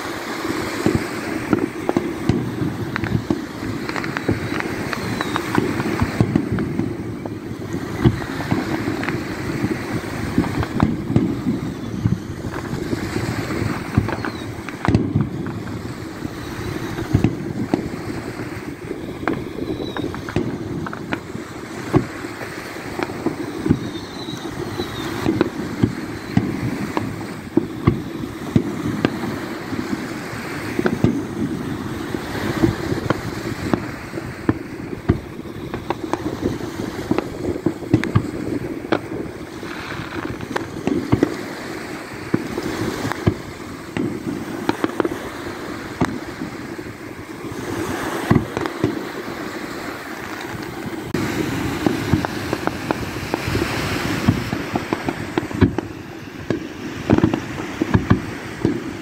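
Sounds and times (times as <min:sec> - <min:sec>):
firework booms and cracks: 0:00.0 - 0:59.0
wind on microphone: 0:00.0 - 0:59.0.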